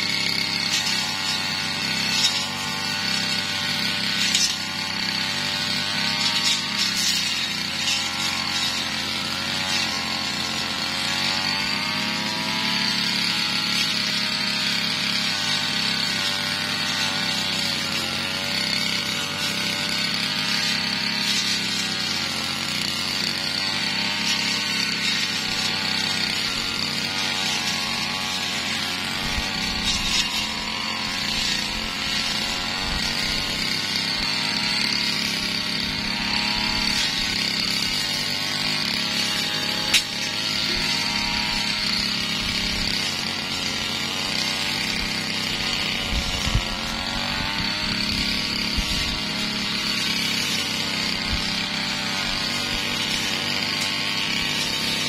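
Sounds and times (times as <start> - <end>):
brush cutter engine running fast: 0.0 - 55.0.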